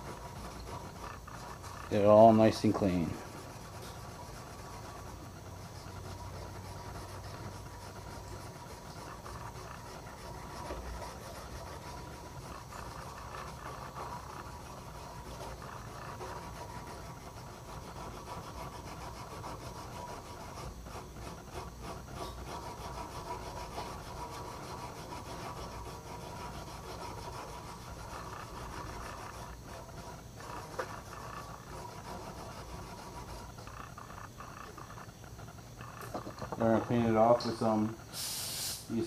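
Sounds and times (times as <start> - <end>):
wire brush scrubbing copper tube: 0.0 - 38.2.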